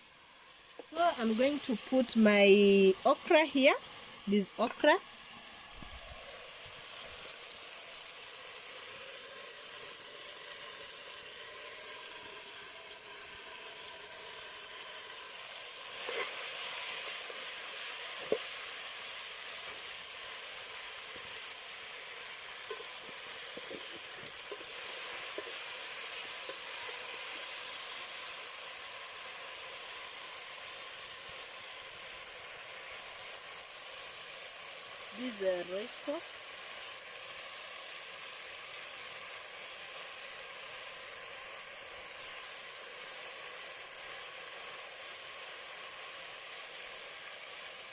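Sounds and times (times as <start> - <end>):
food sizzling in a pot: 0.0 - 47.9.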